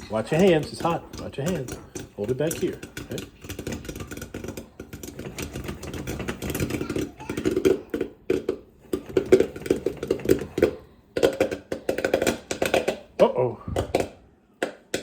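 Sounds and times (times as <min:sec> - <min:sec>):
popcorn maker running: 0:00.0 - 0:14.0
popcorn popping: 0:00.0 - 0:15.0.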